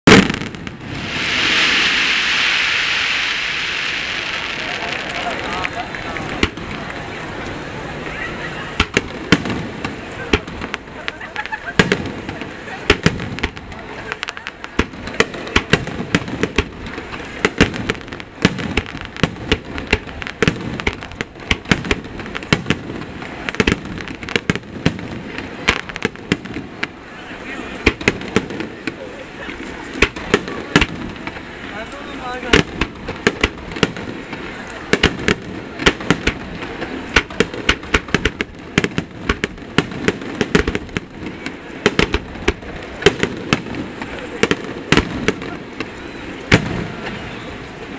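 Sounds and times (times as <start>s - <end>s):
continuous firework rumble: 0.0s - 47.9s
firework bangs: 0.0s - 47.9s.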